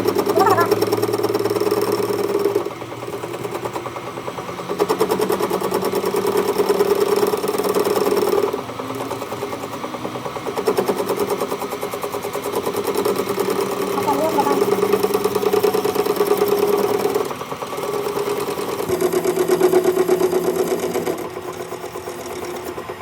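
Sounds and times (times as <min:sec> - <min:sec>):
workshop machine humming: 0:00.0 - 0:23.0.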